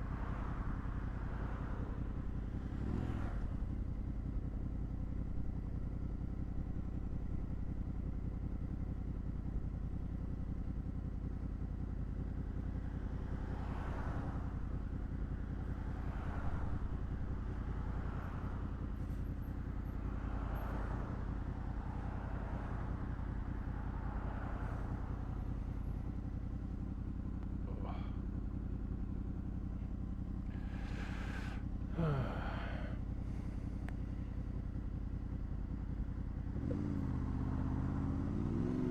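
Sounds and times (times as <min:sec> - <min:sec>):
wind and road noise: 0:00.0 - 0:08.9, 0:10.8 - 0:38.9
motorcycle engine cruising: 0:00.0 - 0:38.9
vehicles passing: 0:00.0 - 0:38.9.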